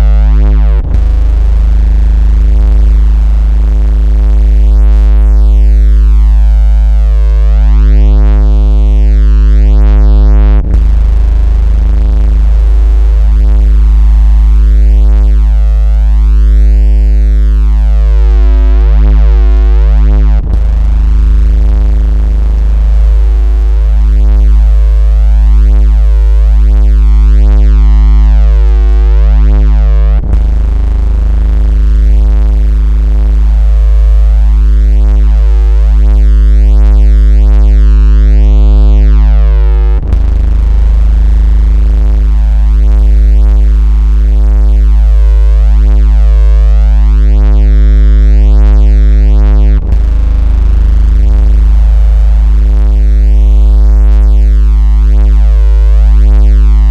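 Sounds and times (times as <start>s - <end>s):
loud electronic bass tone: 0.0s - 56.9s.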